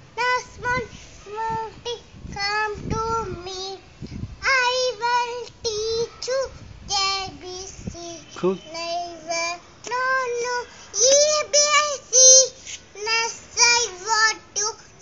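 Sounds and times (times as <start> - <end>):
young child singing: 0.0 - 15.0.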